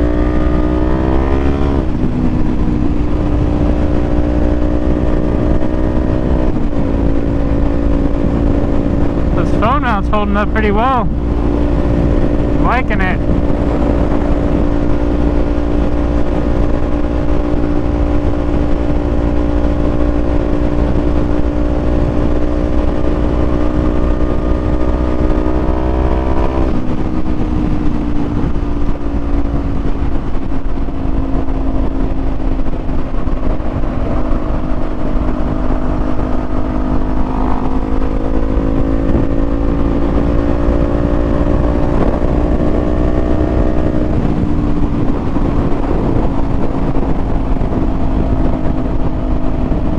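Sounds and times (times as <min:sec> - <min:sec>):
low wind rumble: 0:00.0 - 0:49.9.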